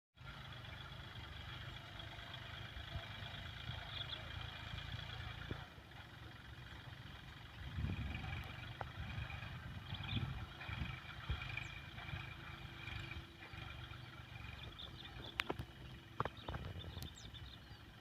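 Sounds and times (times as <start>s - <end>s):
tractor engine running: 0.2s - 18.0s.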